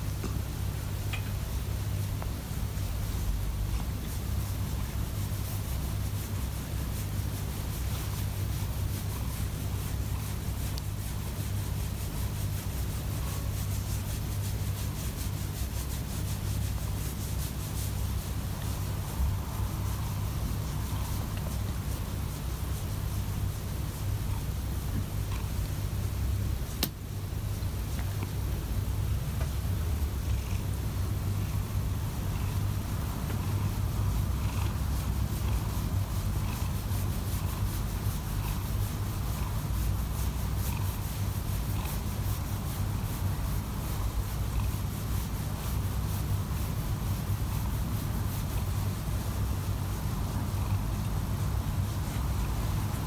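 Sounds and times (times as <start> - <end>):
cat purring: 0.0 - 53.0
fingers scratching fur: 0.2 - 53.0.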